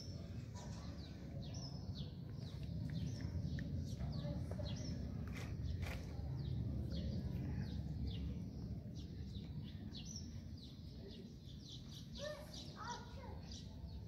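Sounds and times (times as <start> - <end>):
low outdoor rumble: 0.0 - 11.8
small birds chirping: 0.0 - 14.0.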